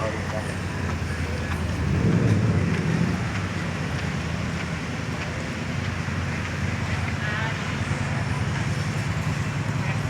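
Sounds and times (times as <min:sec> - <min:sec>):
steady hiss of wet road: 0:00.0 - 0:10.0
vehicle rumble: 0:00.0 - 0:10.0.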